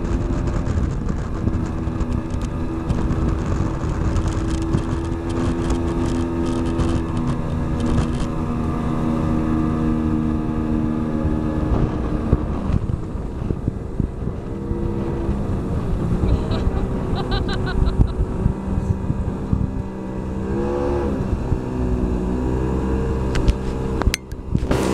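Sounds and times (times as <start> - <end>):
boat wake: 0.0 - 24.9
outboard motor running: 0.0 - 24.9
wind noise: 0.0 - 24.9.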